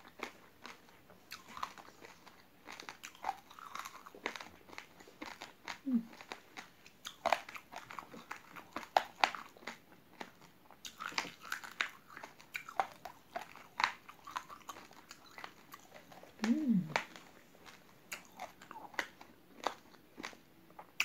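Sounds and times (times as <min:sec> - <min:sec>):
person chewing hard rice grains: 0:00.0 - 0:21.0.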